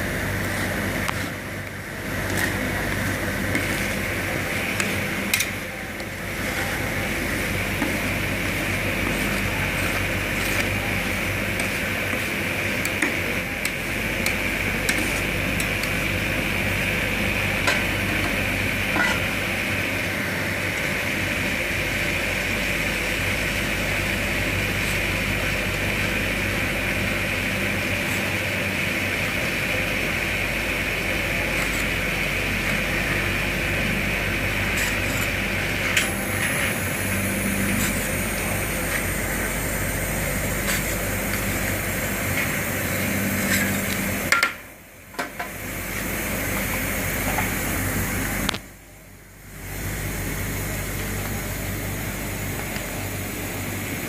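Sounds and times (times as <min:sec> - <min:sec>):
refrigeration unit humming: 0:00.0 - 0:54.0.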